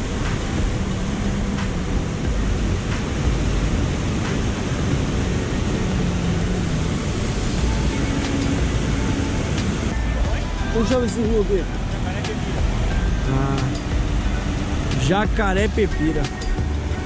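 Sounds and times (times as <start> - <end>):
water rushing over rocky falls: 0.0 - 17.0.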